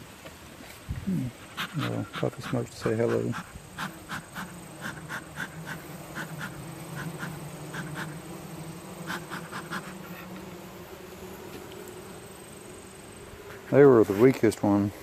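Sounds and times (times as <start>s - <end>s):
bees humming: 0.5s - 15.0s.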